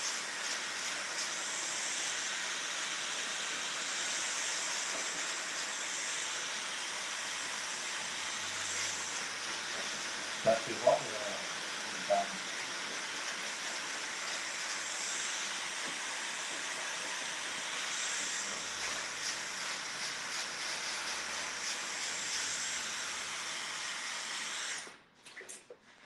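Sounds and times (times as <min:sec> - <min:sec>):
hair dryer blowing: 0:00.0 - 0:25.0.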